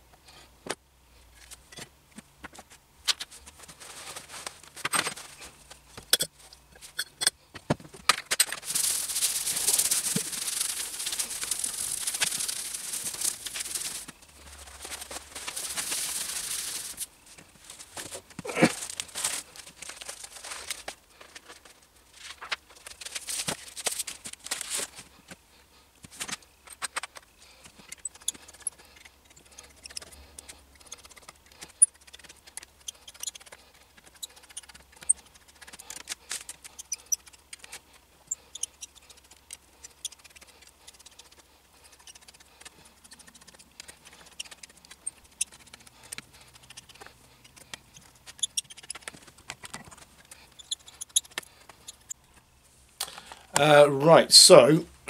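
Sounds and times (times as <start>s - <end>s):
rustling handling noise: 1.2s - 7.0s, 7.6s - 53.8s.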